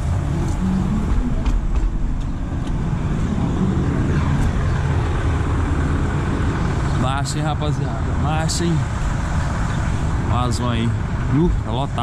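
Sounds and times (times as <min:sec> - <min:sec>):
van engine and road noise rumble: 0:00.0 - 0:12.0.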